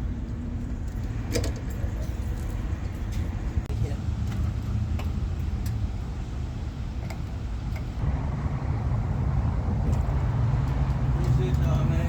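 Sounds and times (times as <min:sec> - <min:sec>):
car engine and exhaust drone: 0:00.0 - 0:12.0.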